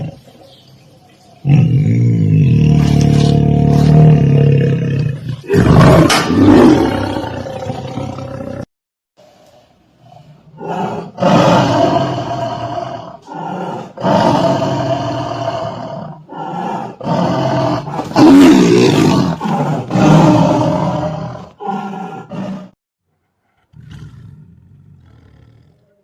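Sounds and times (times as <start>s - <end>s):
tiger roaring: 1.4s - 8.7s, 10.0s - 22.8s, 23.4s - 26.0s.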